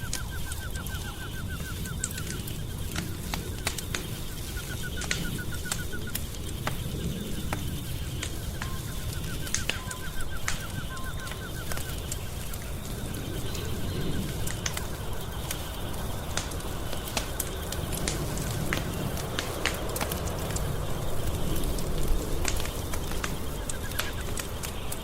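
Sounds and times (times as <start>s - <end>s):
sharp snaps: 0.0s - 12.7s, 14.4s - 25.0s
low rumble of flames: 0.0s - 25.0s
wood fire crackling: 0.0s - 25.0s.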